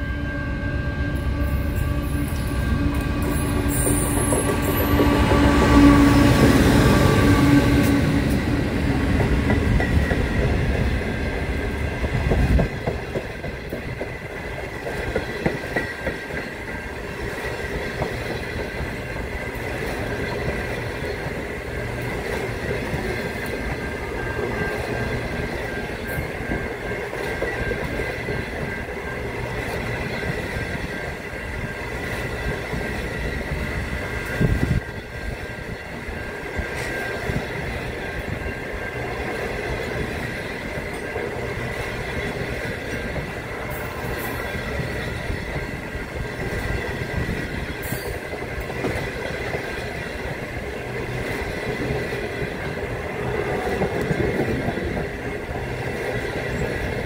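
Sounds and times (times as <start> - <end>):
diesel locomotive rumbling: 0.0 - 57.0
train wheels clattering over rail joints: 3.0 - 57.0.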